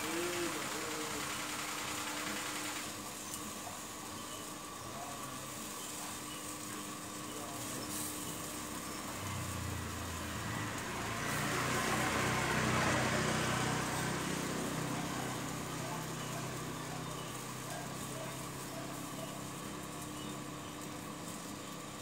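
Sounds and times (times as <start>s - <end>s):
engine running: 0.0s - 3.8s, 7.4s - 22.0s.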